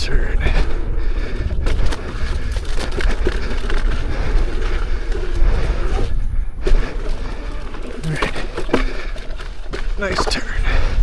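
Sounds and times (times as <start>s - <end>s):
clicks and knocks from rough ground: 0.0s - 11.0s
electric unicycle rumble and rattle: 0.0s - 11.0s
wind buffeting microphone: 0.0s - 11.0s.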